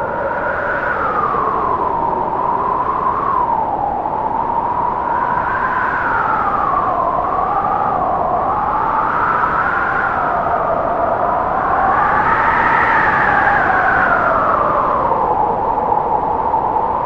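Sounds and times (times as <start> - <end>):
blizzard wind howling: 0.0 - 17.0.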